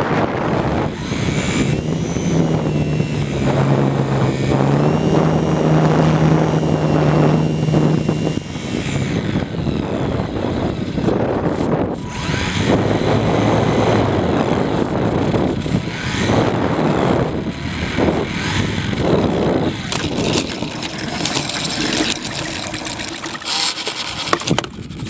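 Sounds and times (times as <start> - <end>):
model airplane motor humming: 0.0 - 25.0
rushing wind noise: 0.0 - 25.0.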